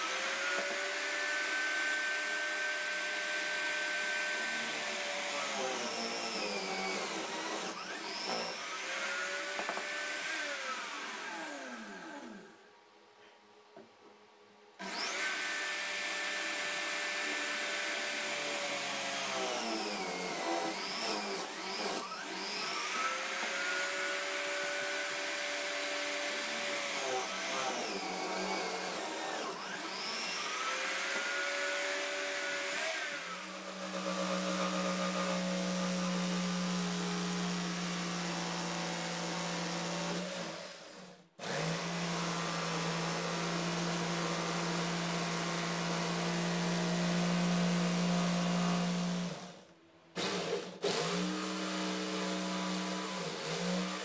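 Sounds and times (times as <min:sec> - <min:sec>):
jigsaw humming: 0:00.0 - 0:12.5, 0:14.8 - 0:54.0
electric drill boring wood: 0:00.0 - 0:12.6, 0:14.8 - 0:54.0.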